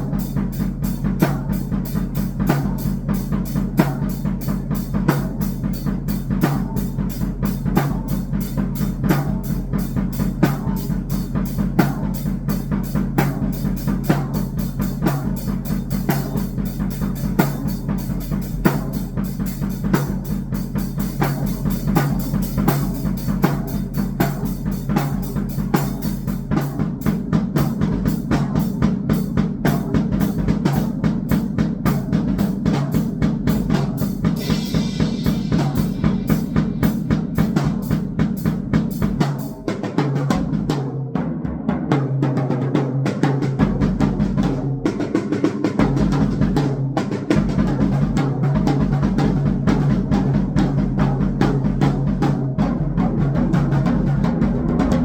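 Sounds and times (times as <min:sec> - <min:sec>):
drum kit played fast: 0:00.0 - 0:55.0.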